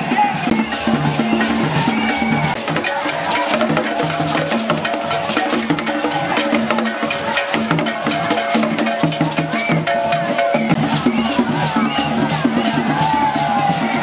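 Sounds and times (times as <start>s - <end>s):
drums: 0.0s - 14.0s
wood block clacks: 0.5s - 14.0s.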